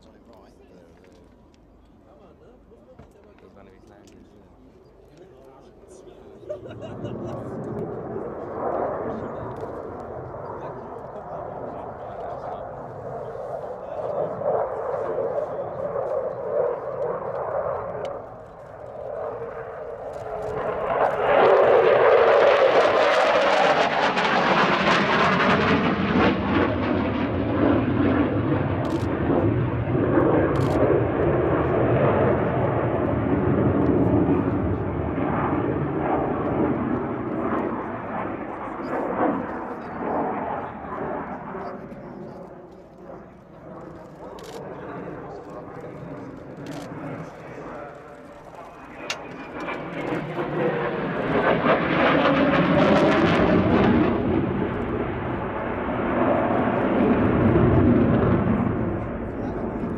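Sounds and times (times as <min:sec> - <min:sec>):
jet fighter rumble overhead: 0:03.0 - 0:59.9.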